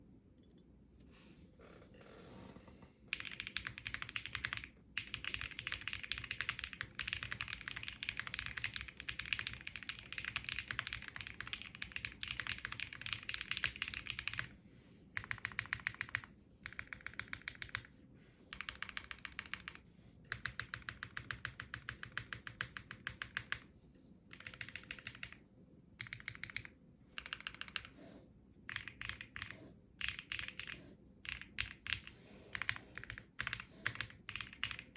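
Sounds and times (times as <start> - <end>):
mechanical keyboard typing: 3.1 - 14.5, 15.2 - 17.9, 18.5 - 23.7, 24.3 - 25.4, 26.0 - 28.0, 28.7 - 34.9.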